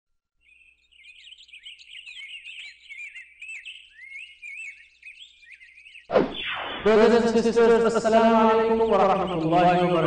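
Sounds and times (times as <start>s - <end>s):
birds chirping and twittering: 0.4s - 10.0s.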